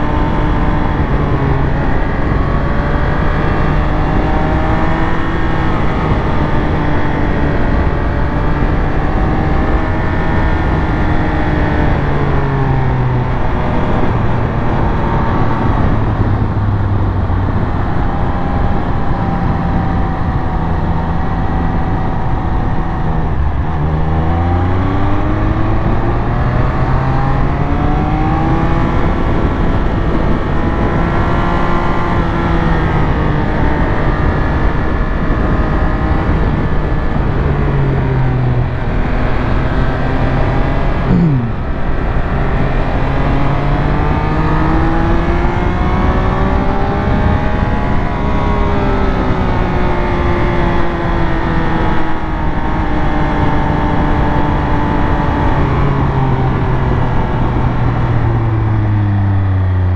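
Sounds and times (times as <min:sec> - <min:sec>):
wind rush: 0:00.0 - 0:40.1, 0:40.8 - 0:59.9
motorcycle engine revving: 0:00.0 - 0:59.9.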